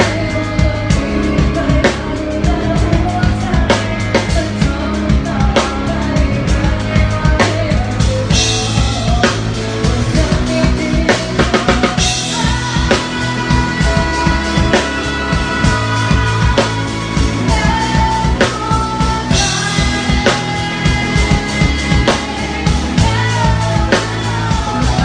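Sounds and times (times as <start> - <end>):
band bass and instruments: 0.0 - 25.0.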